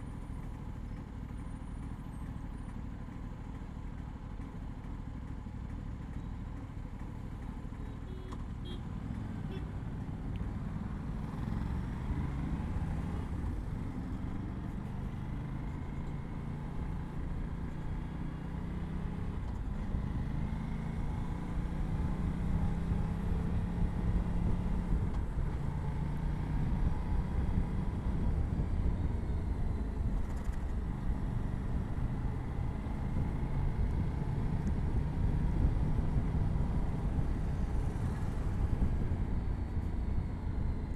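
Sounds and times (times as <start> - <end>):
motorcycle engine at low revs: 0.0 - 40.9
road rumble: 0.0 - 40.9
wind: 0.0 - 40.9.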